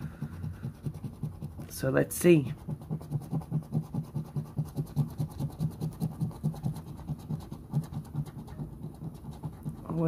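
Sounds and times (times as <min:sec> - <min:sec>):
coin scratching lottery ticket: 0:00.0 - 0:10.0.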